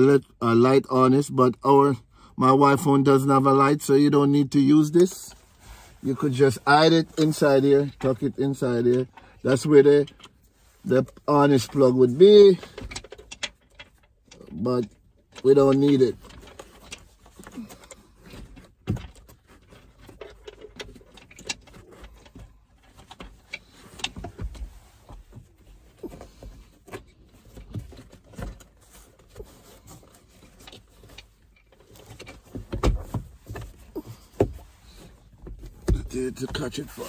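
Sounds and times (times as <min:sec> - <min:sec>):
hands handling car parts: 0:03.2 - 0:37.0.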